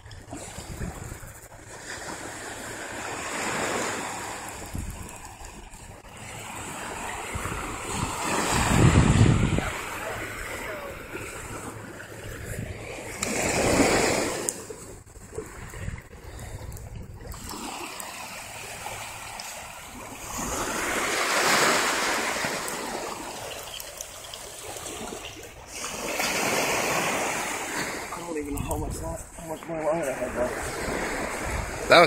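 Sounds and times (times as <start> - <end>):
small waves breaking on shore: 0.0 - 32.0.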